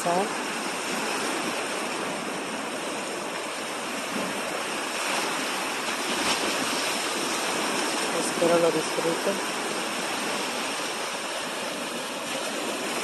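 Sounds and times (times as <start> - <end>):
sea waves surging onto beach: 0.0 - 13.0.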